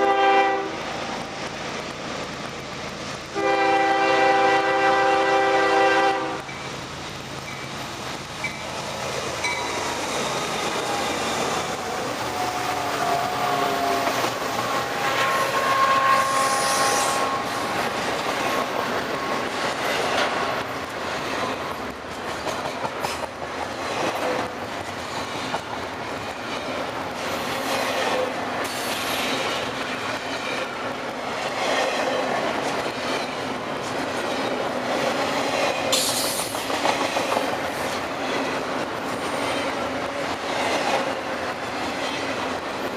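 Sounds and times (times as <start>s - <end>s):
freight train rumble: 0.0s - 42.9s
wheels clacking over rail joints: 6.4s - 15.5s, 17.3s - 42.9s.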